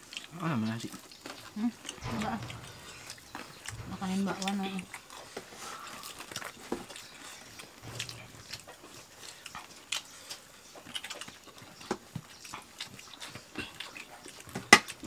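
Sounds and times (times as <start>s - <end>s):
people chewing and lip smacking: 0.0s - 15.0s.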